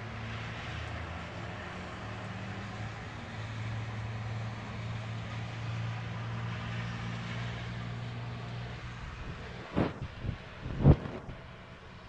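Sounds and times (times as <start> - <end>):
hiss of wet snowstorm: 0.0 - 12.0.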